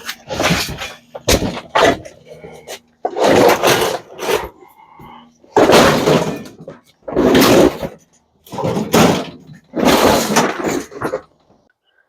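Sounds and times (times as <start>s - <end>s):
scrap metal crashing: 0.0s - 11.4s.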